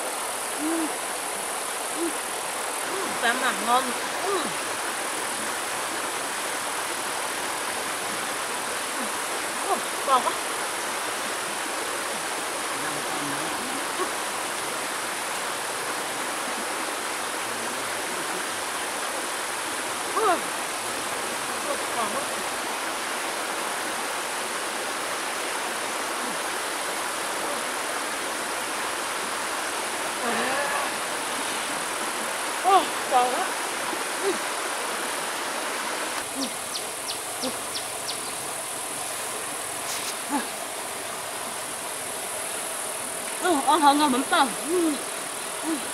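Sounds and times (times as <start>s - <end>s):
high insect drone: 0.0s - 45.9s
river flowing over rocks: 0.0s - 45.9s
rushing stream: 0.0s - 45.9s.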